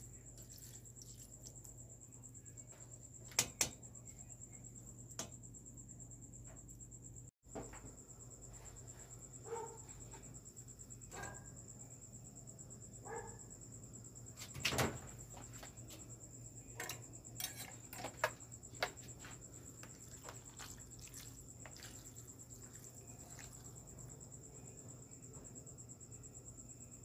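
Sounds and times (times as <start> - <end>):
high insect trill: 0.0 - 27.0.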